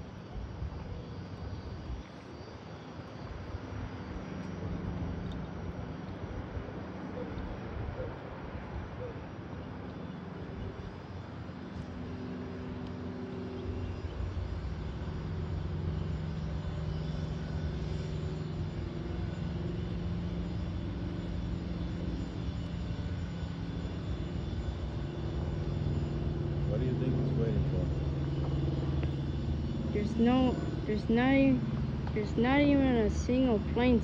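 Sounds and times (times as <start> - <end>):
distant jet engines rumbling: 0.0 - 34.0.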